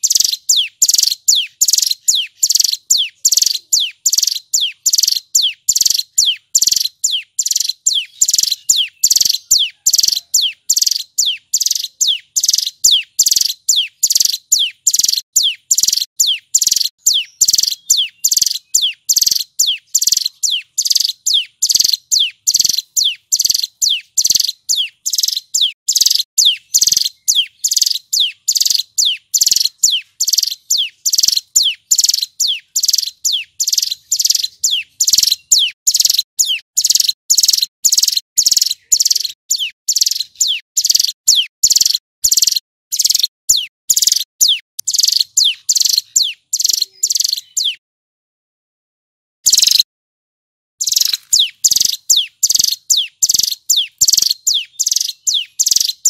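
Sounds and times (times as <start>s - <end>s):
bird singing sharp repeated notes: 0.0s - 47.8s, 49.4s - 49.9s, 50.8s - 56.0s.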